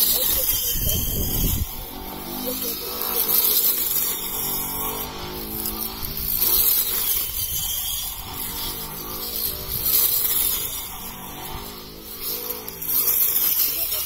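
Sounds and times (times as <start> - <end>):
blade cutting wheat stalks: 0.0 - 14.0
electric brush cutter motor: 0.0 - 14.0.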